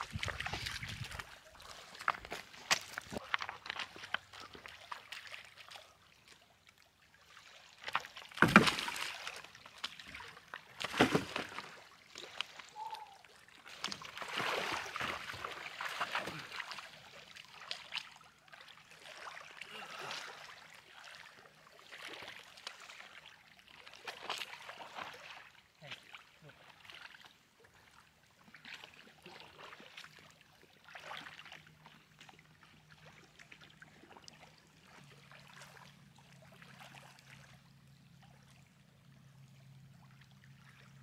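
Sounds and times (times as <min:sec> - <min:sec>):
lake water lapping on shore: 0:00.0 - 0:41.0.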